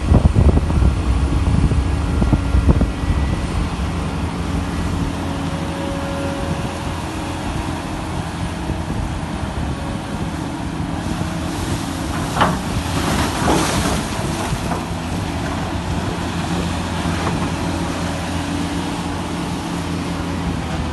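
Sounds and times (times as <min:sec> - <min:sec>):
machinery low drone: 0:00.0 - 0:20.9.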